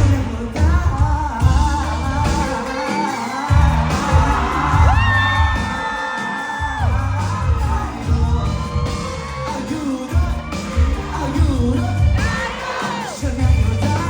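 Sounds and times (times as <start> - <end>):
live pop band: 0.0 - 14.0.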